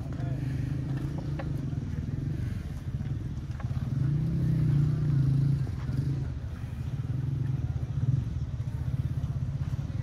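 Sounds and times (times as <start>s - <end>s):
engine throbbing: 0.0s - 10.0s.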